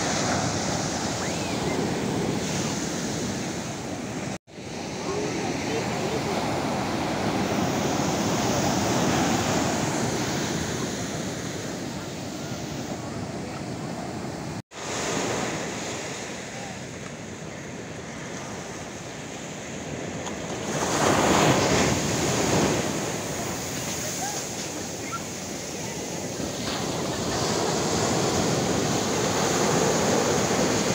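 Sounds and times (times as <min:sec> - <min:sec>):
surf washing up sandy beach: 0:00.0 - 0:30.9.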